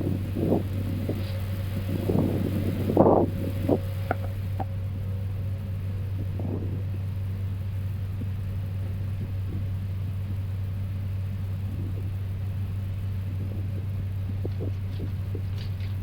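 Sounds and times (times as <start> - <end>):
aircraft cockpit hum and rumble: 0.0 - 16.0.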